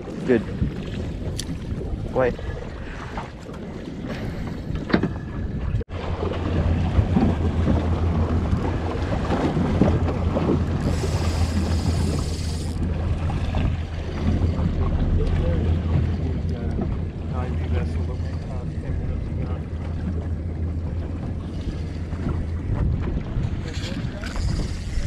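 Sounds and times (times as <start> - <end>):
sea water around boat: 0.0 - 25.0
wind buffeting microphone: 0.0 - 25.0.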